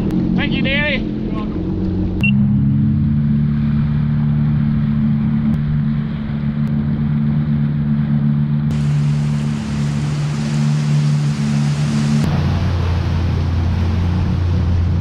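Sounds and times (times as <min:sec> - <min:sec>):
jet ski engine cruising: 0:00.0 - 0:15.0.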